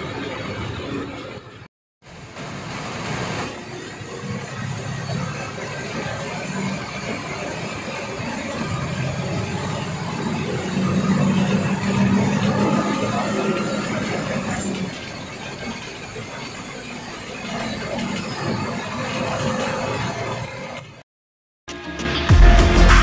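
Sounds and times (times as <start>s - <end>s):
bus engine running: 0.0s - 21.0s
road and cab noise: 0.0s - 21.1s.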